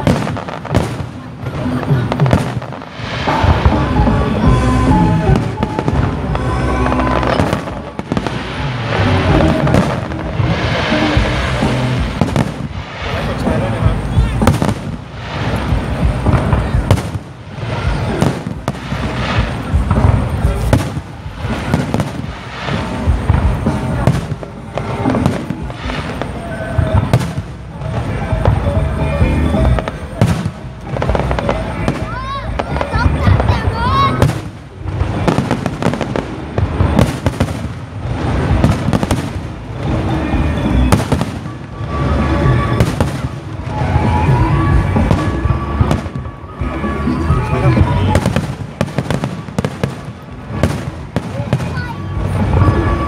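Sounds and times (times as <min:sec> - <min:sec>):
firework bangs: 0:00.0 - 0:53.0
firework crackling: 0:00.0 - 0:53.0
music playing: 0:00.0 - 0:53.0.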